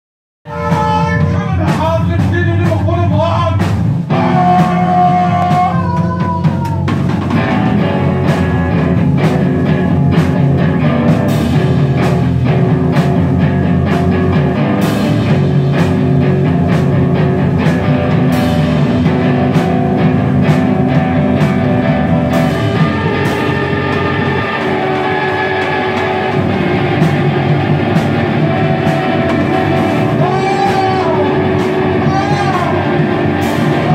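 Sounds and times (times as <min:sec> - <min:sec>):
electric guitar: 0:00.5 - 0:02.8, 0:03.6 - 0:33.9
drum kit: 0:00.5 - 0:33.9
electric bass: 0:00.5 - 0:33.9.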